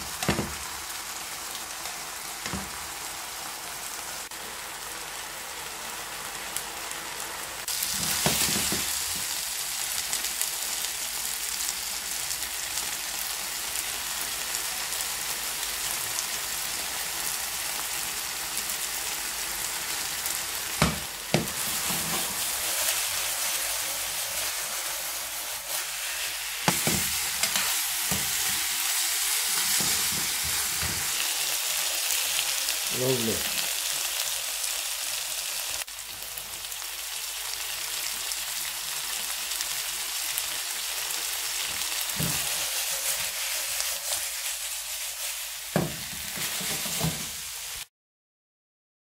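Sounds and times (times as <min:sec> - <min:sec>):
livers and onions sizzling in pan: 0:00.0 - 0:47.9.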